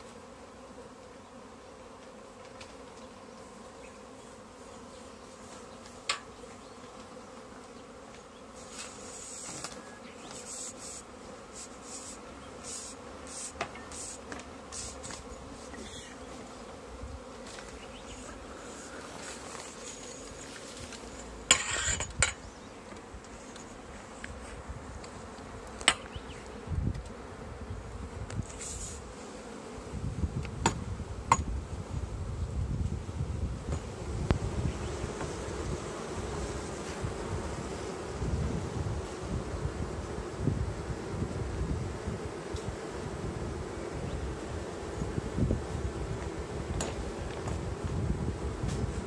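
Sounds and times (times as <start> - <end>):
bees buzzing: 0.0 - 49.0.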